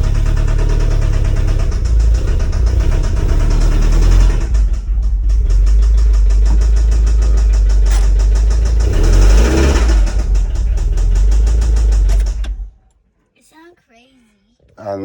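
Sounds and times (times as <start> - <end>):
car engine running: 0.0 - 12.9
rapid engine tapping: 0.0 - 12.9.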